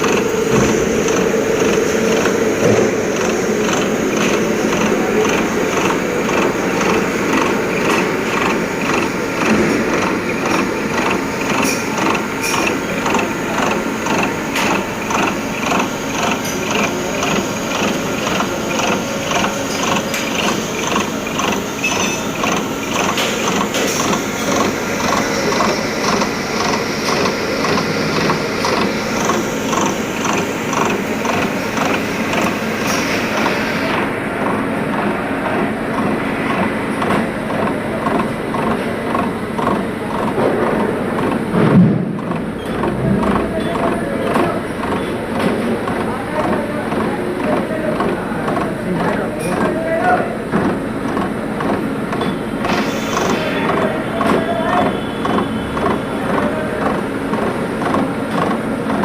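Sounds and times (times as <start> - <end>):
regular mechanical tapping: 0.0 - 33.6, 34.4 - 59.0
milling machine whirring: 0.0 - 59.0.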